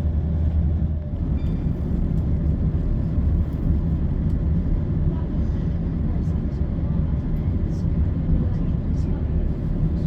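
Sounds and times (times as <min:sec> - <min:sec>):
diesel engine drone: 0:00.0 - 0:10.0
wheel and rail rumble: 0:00.0 - 0:10.0.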